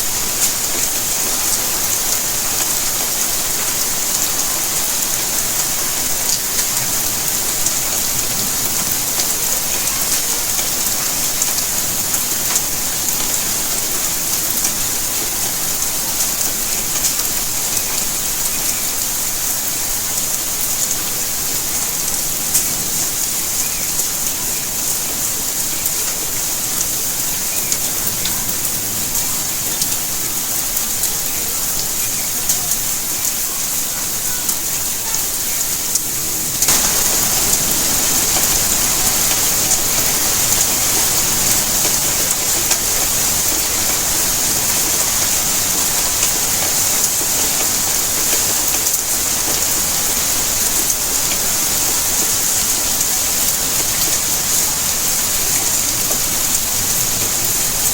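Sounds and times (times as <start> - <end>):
rain pattering on surfaces: 0.0 - 57.9.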